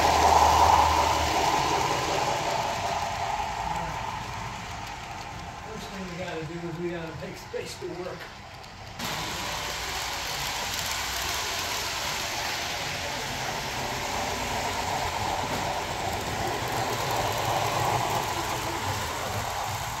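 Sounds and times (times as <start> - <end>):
model steam locomotive running sound: 0.0 - 20.0.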